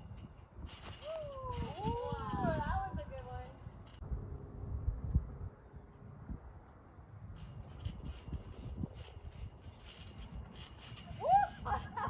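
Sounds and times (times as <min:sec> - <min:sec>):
crickets chirping: 0:00.0 - 0:12.0
high insect trill: 0:00.0 - 0:12.0.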